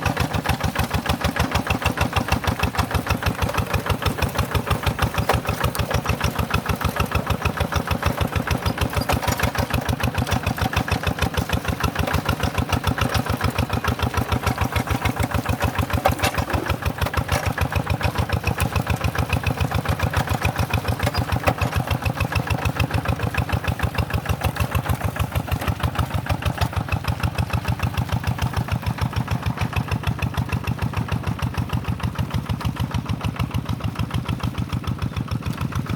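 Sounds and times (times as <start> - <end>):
tractor engine chugging: 0.0 - 35.9.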